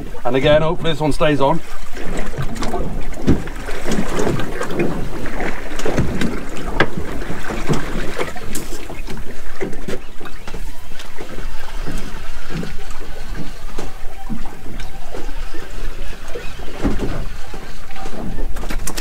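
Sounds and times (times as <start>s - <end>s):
water slapping against boat hull: 0.0s - 19.0s.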